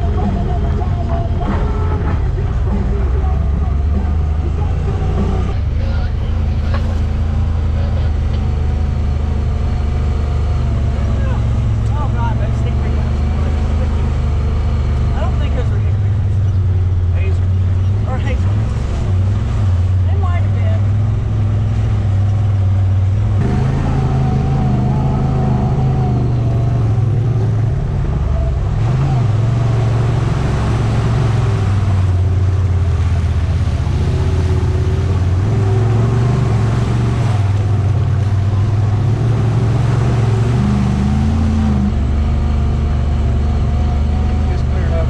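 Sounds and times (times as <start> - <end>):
utility vehicle engine running: 0.0 - 45.0.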